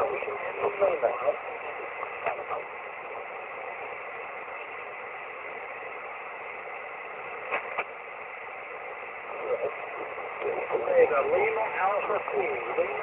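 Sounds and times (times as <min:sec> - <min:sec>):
radio crackles: 0:00.0 - 0:13.0
shortwave radio hiss: 0:00.0 - 0:13.0.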